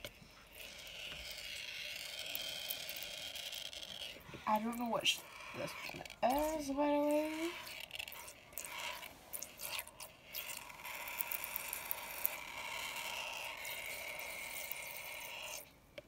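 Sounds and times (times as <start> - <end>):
rubber balloon creaking: 0.0 - 15.7.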